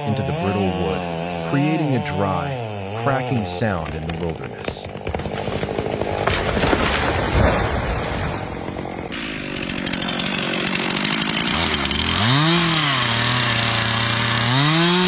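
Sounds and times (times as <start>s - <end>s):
chainsaw engine note: 0.0s - 6.2s, 8.6s - 15.0s
chainsaw cutting wood: 0.0s - 7.3s, 8.4s - 15.0s.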